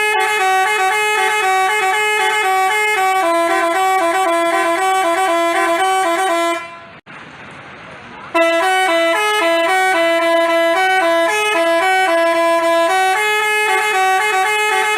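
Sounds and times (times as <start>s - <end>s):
multi-tone bus horn tune: 0.0s - 7.0s, 8.3s - 14.9s.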